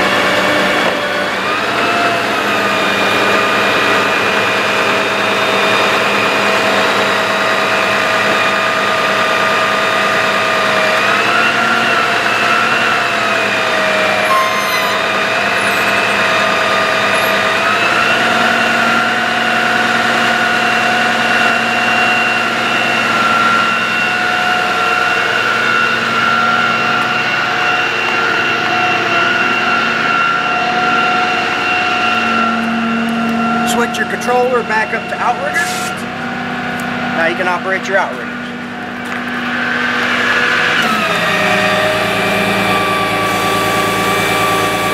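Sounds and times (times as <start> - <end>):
hydraulic pump whine: 0.0 - 44.9
truck engine running: 0.0 - 44.9.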